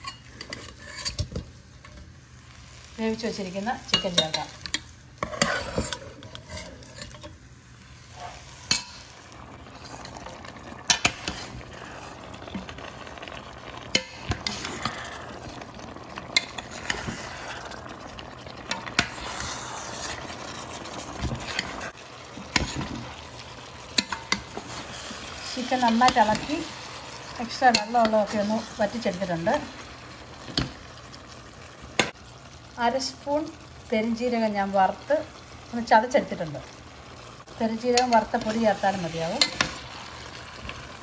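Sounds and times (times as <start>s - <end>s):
chicken sizzling in a pan: 0.0s - 41.0s.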